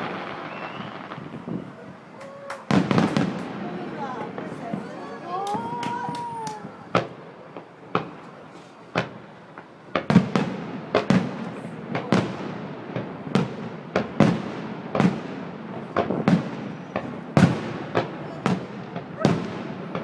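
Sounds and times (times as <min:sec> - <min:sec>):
fireworks shells booming: 0:00.0 - 0:20.0.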